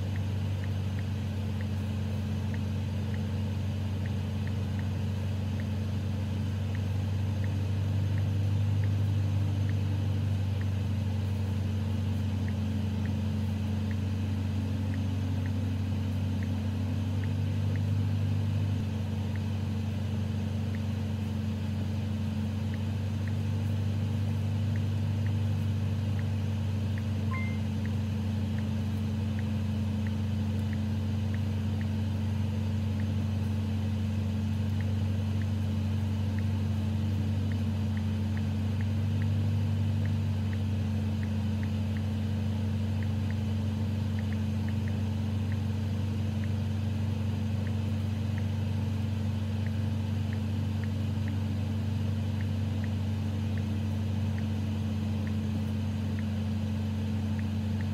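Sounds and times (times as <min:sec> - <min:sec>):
faint regular ticking: 0:00.0 - 0:18.0, 0:18.8 - 0:57.9
car engine idling: 0:00.0 - 0:57.9.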